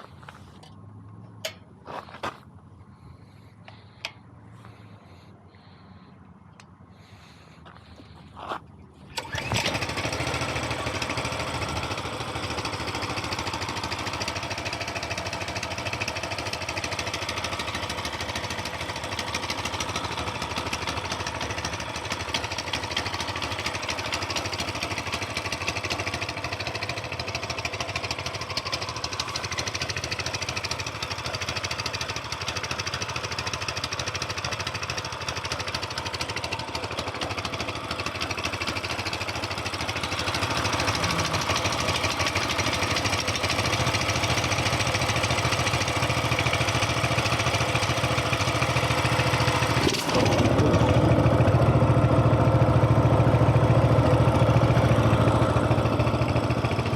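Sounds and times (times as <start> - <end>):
small engine idling: 0.0 - 56.9
small engine starting: 9.0 - 32.2, 32.8 - 56.9.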